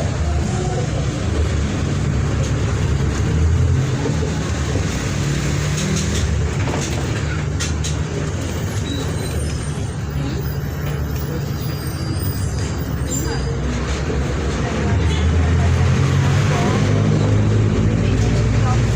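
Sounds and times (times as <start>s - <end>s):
bus diesel engine running: 0.0s - 18.9s.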